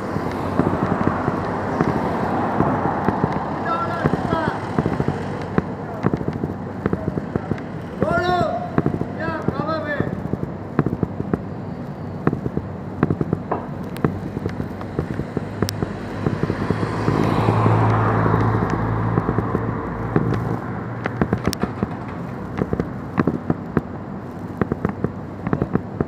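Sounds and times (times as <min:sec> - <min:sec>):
vehicle passing: 0:00.0 - 0:11.2, 0:12.5 - 0:24.2
sharp crackles and clicks: 0:00.0 - 0:26.0.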